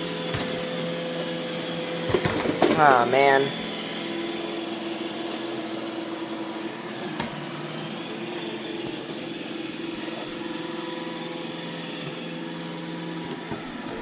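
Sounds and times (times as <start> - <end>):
robot vacuum motor whirring: 0.0 - 14.0.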